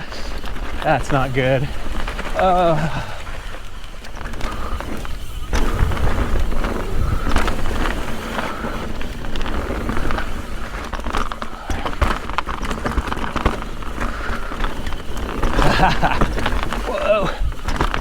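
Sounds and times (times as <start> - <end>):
bike knocking and rattling: 0.0 - 18.0
bike tyres rolling over rocks: 0.0 - 18.0.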